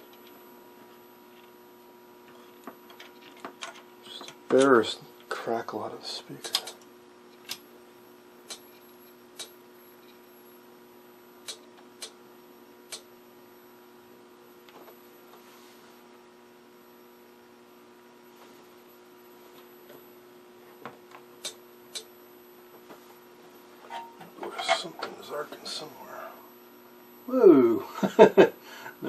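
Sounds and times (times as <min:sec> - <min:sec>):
television humming: 0:00.0 - 0:29.0.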